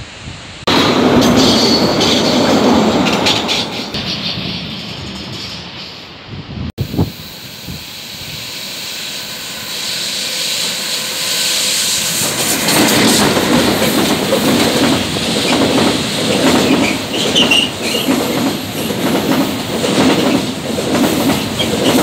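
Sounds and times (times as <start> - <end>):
freight train on steel bridge: 0.0 - 22.0.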